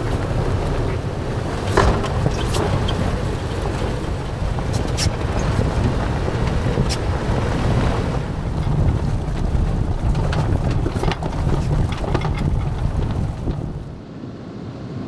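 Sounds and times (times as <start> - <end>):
sharp clicks and knocks: 0.0 - 7.8, 8.4 - 14.0
engine and tyres rumbling: 0.0 - 14.2.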